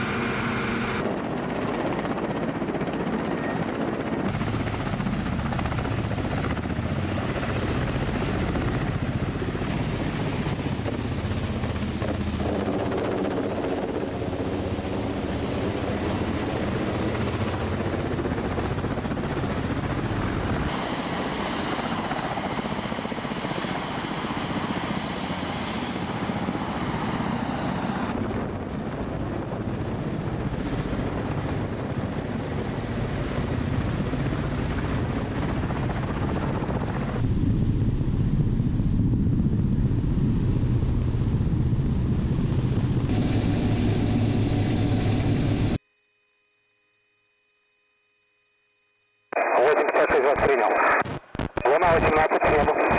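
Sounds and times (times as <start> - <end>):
helicopter rotor and turbine engines: 0.0 - 45.8, 49.4 - 52.9.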